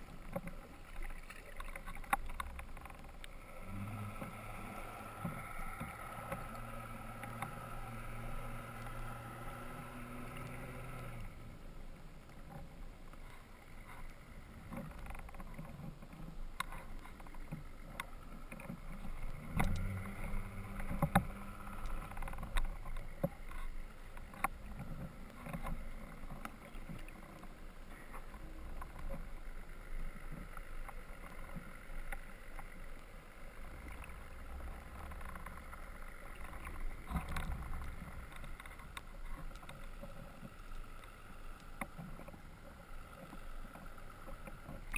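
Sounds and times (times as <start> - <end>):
sharp clicks underwater: 0.0 - 11.5, 12.2 - 44.9
boat motor hum underwater: 0.0 - 44.9.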